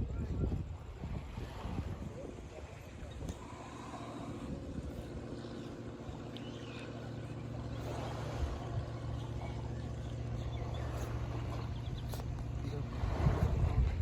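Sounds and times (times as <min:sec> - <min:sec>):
engine droning: 0:00.7 - 0:14.0.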